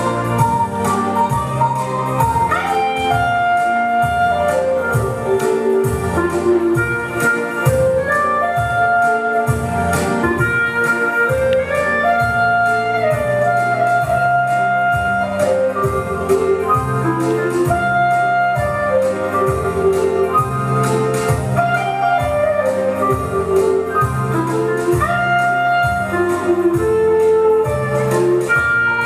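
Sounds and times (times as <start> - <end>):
instrumental music with steady beat: 0.0 - 29.0.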